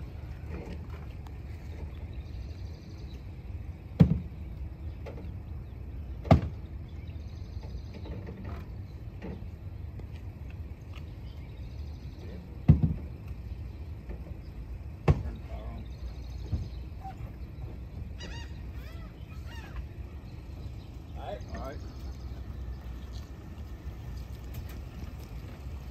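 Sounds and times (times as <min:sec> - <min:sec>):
low steady rumble: 0:00.0 - 0:25.9.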